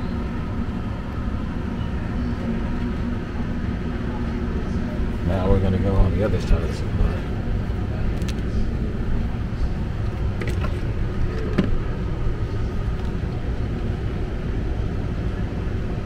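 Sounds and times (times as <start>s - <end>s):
blower running with low rumble: 0.0s - 16.0s.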